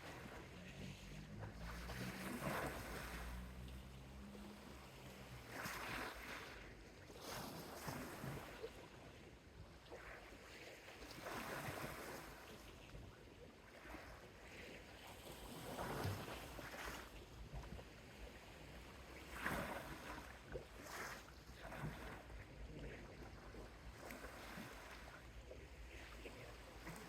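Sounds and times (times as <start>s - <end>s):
waves washing up a beach: 0.0s - 27.0s.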